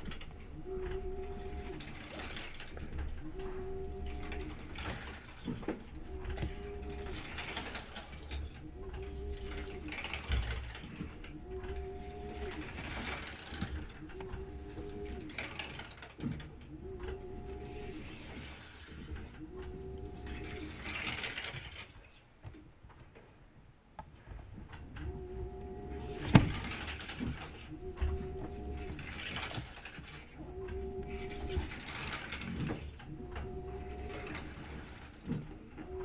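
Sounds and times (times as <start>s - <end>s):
washing machine motor humming: 0.0s - 21.6s, 24.6s - 36.0s
washing machine low rumble: 0.0s - 21.7s, 24.4s - 36.0s.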